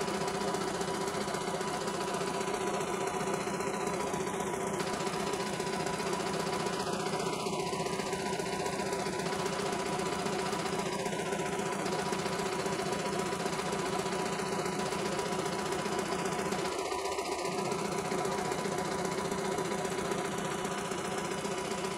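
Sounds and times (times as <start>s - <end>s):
motor hum: 0.0s - 21.9s
rapid needle clatter: 0.0s - 21.9s.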